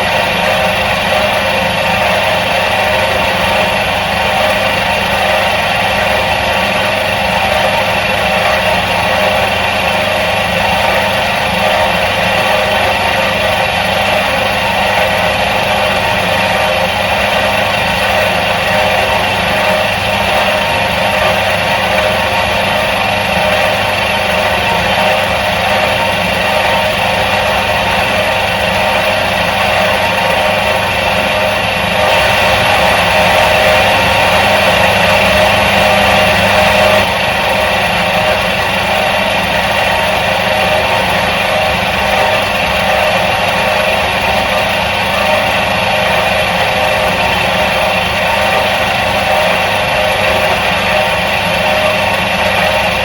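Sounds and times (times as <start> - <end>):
washing machine motor drone: 0.0 - 53.0.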